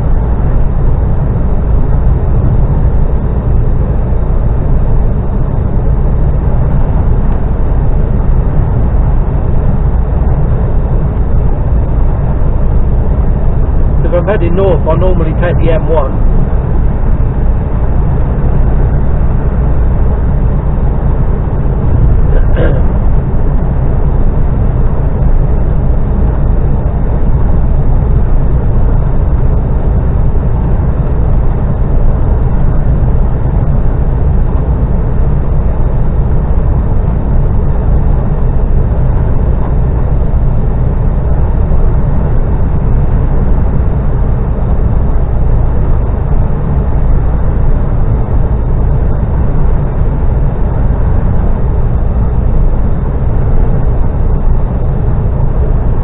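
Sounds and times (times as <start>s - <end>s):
car driving road and engine noise: 0.0s - 56.0s.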